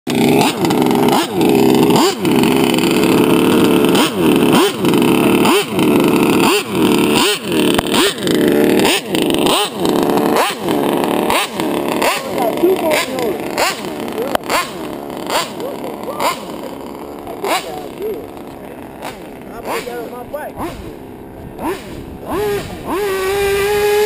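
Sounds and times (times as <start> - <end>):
small two-stroke engine revving: 0.1 - 24.0.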